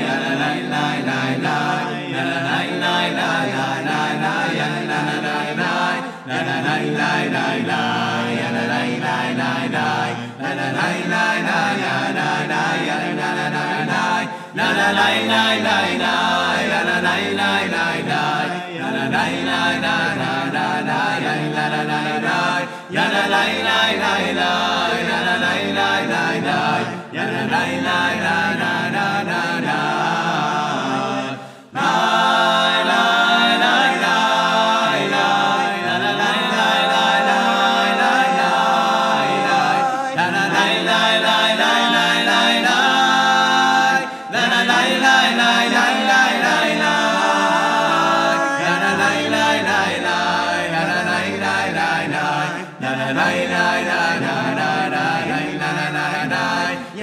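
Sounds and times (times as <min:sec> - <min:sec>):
male a cappella ensemble singing: 0:00.0 - 0:57.0.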